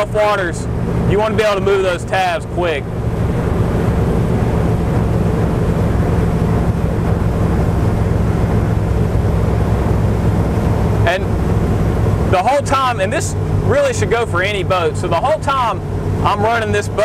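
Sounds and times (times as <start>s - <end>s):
powerboat engines running: 0.0s - 17.0s
rush of wind and water: 0.0s - 17.0s.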